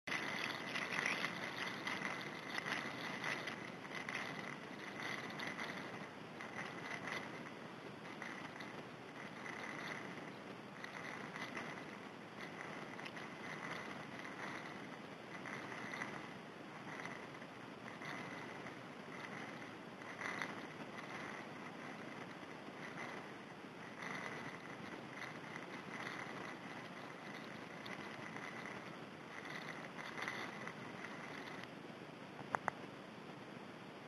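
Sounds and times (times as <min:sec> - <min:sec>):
faint crackles: 0:00.0 - 0:33.7.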